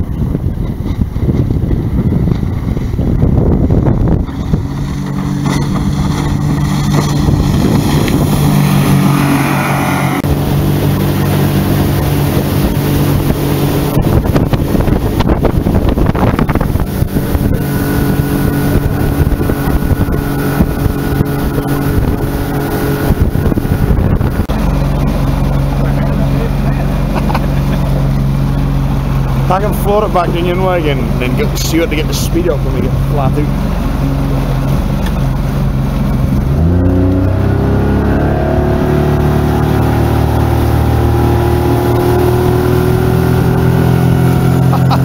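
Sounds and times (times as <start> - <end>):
outboard motor running: 0.0 - 45.0
water slapping against hull: 0.0 - 45.0
wind buffeting microphone: 0.0 - 45.0.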